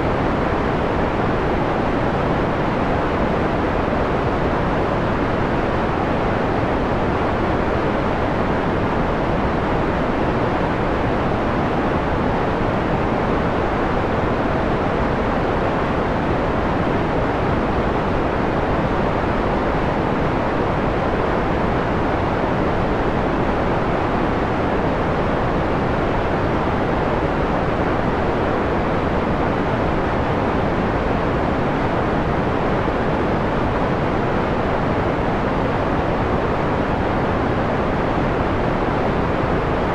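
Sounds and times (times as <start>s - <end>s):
muffled filtered white noise: 0.0s - 39.9s.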